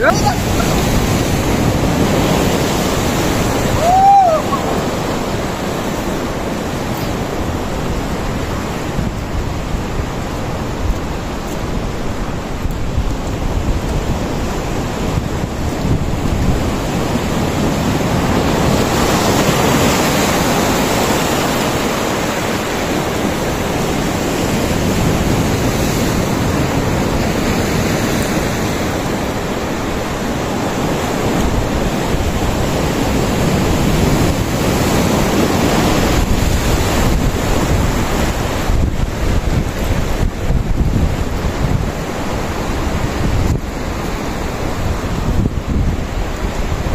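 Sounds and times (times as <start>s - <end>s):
surf breaking over rocks: 0.0s - 46.9s
wind buffeting microphone: 0.0s - 46.9s.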